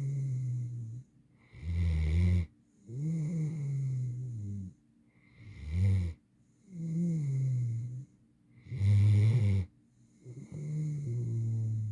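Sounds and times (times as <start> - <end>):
puppy snoring: 0.0 - 11.9.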